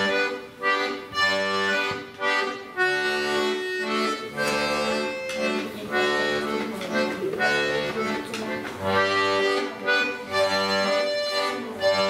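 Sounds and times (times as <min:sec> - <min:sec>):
button accordion playing: 0:00.0 - 0:12.0.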